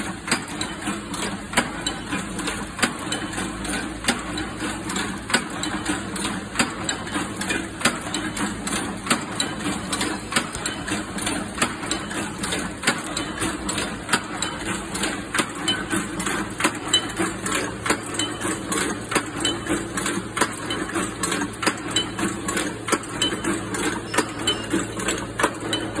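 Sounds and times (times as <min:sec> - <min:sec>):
machine metallic clacks: 0:00.0 - 0:26.0.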